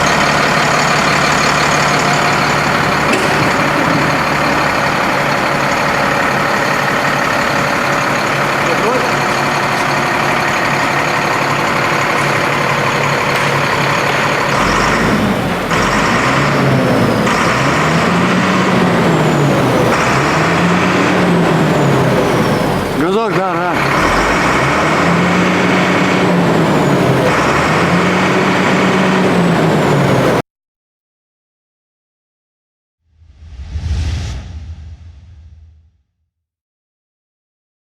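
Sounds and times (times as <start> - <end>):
diesel truck engine running: 0.0 - 30.4.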